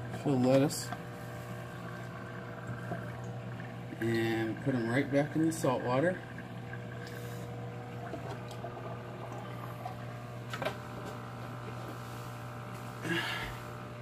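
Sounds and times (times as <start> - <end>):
aquarium pumps humming: 0.0 - 14.0
circulating water: 0.0 - 14.0.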